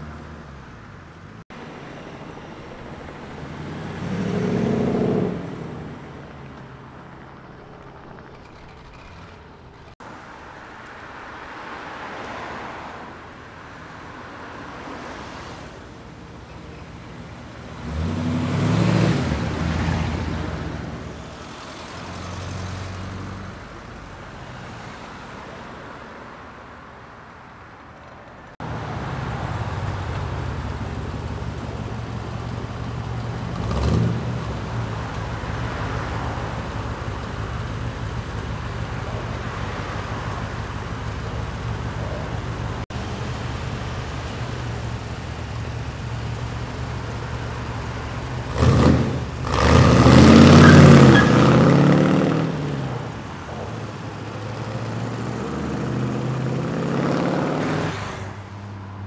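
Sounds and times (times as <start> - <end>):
car engine passing close: 0.0 - 13.3, 16.5 - 25.7, 28.5 - 58.7
vet eight engine rumbling: 0.0 - 25.2, 27.3 - 57.5.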